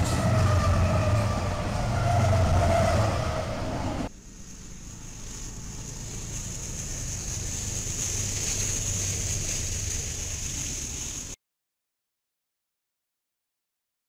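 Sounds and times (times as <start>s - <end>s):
locomotive engine rumble: 0.0s - 11.4s
wheels hissing on rail: 0.0s - 11.4s.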